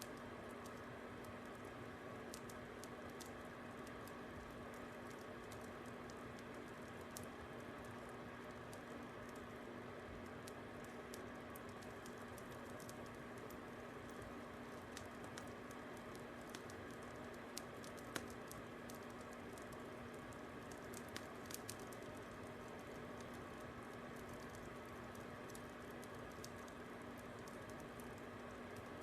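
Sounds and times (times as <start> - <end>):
faint hum: 0.0 - 29.0
fire crackling and popping: 0.0 - 29.0
soft steady hiss: 0.0 - 29.0.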